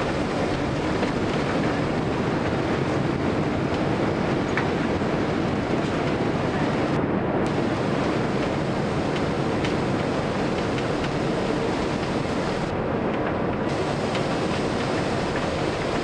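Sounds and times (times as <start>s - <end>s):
airliner engines and wheels rumbling: 0.0s - 16.0s.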